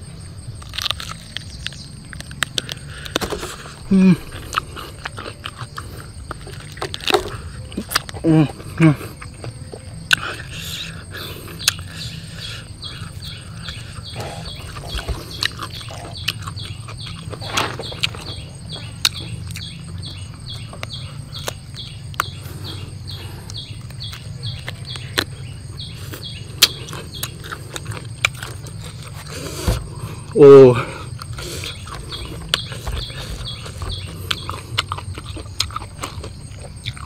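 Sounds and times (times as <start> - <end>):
low background hum: 0.0 - 37.0
eating clicks and smacks: 0.6 - 29.6, 31.1 - 37.0.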